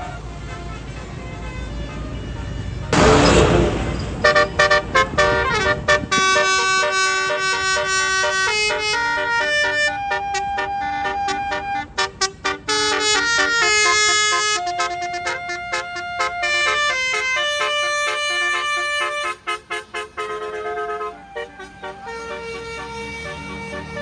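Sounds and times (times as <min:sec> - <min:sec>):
bus horn playing a tune: 0:00.0 - 0:24.0.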